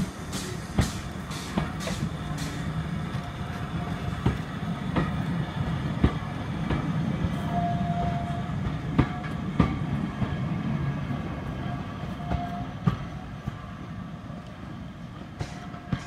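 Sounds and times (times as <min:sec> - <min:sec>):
train carriages rumbling: 0:00.0 - 0:16.0.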